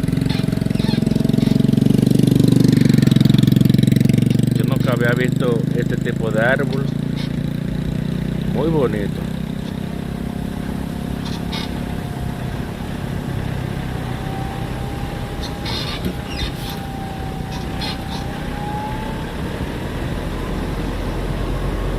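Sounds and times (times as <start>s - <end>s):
vehicle engine rumble: 0.0s - 21.9s.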